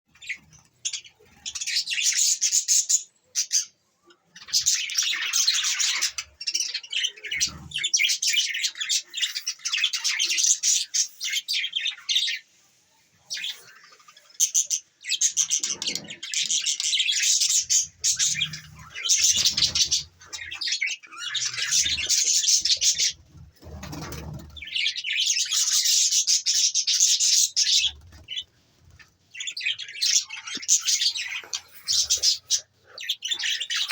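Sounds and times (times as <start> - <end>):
budgerigars chirping and chattering: 0.1 - 12.6, 13.2 - 33.9.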